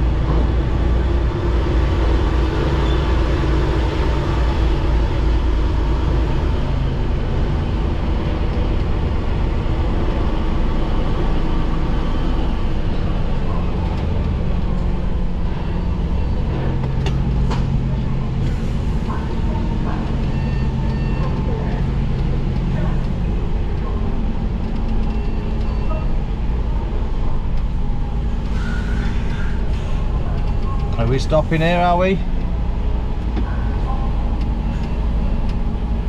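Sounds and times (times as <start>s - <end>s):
diesel engine running slowly: 0.0s - 36.0s.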